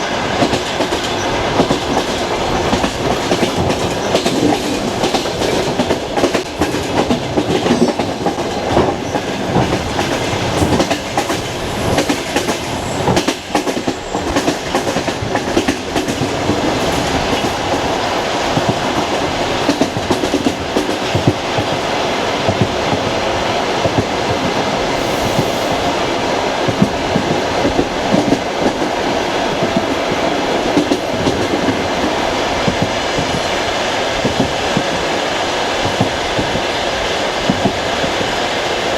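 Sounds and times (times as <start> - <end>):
train rolling rumble: 0.0 - 38.9.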